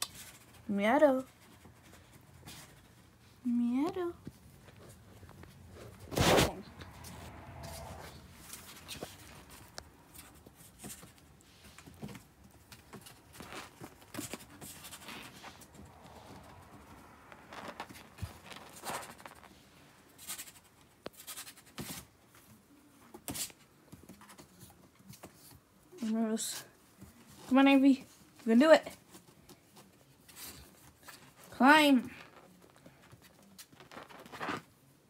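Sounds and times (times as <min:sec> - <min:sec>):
kittens rustling on bedding: 0:00.0 - 0:35.0.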